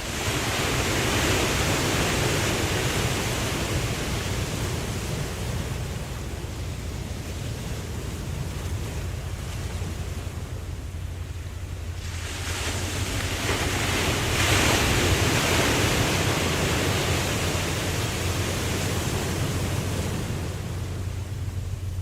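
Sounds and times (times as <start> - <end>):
ocean wave washing in: 0.0 - 22.0
steady low rumble: 0.0 - 22.0.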